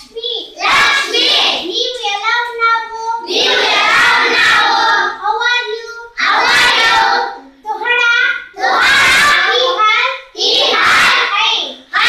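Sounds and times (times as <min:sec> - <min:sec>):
children repeating in unison: 0:00.0 - 0:12.0.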